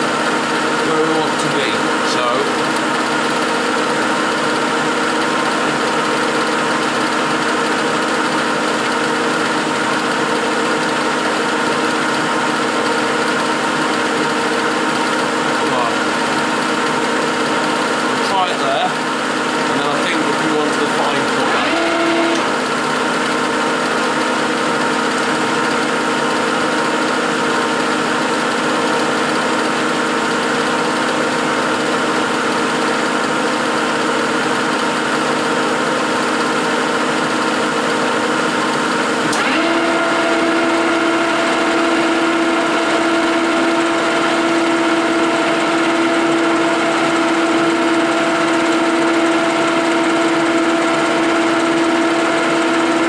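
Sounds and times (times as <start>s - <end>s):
lathe humming and whining: 0.0s - 53.0s.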